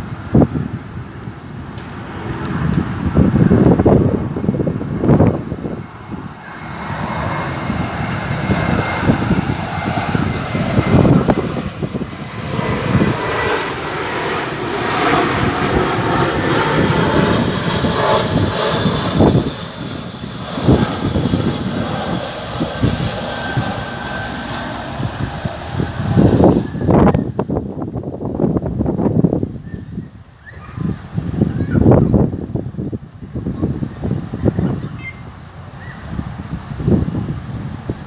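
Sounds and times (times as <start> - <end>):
jet airliner engine noise: 0.0 - 38.0
wind buffeting microphone: 0.0 - 38.0.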